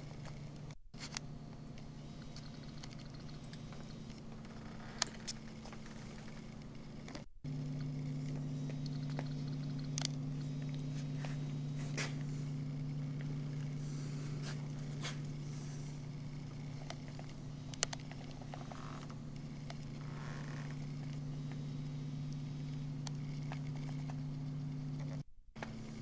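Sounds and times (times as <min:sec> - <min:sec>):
faint clicks and ticks: 0:00.0 - 0:13.8, 0:14.5 - 0:26.0
steady low hum: 0:00.0 - 0:26.0.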